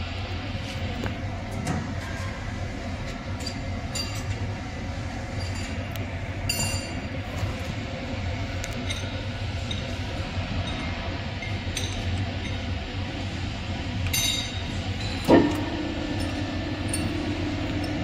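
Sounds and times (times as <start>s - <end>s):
test bench mechanical hum: 0.0s - 18.0s.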